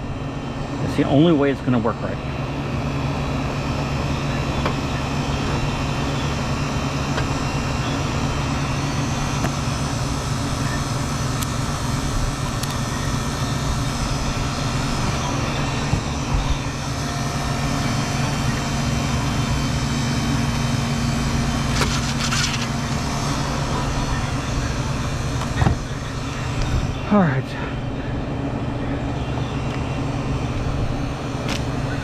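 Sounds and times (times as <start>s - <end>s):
condensing unit humming: 0.0s - 32.0s.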